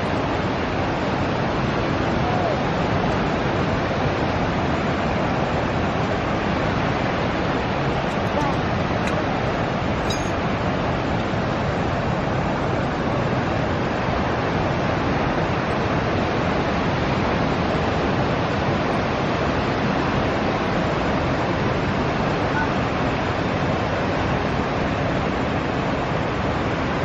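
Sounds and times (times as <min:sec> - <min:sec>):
ocean surf on the shore: 0:00.0 - 0:27.0.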